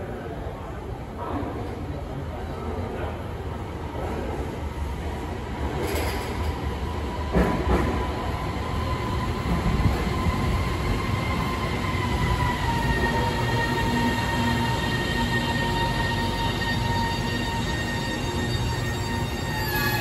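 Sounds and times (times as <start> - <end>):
train rumbling: 3.0 - 20.0.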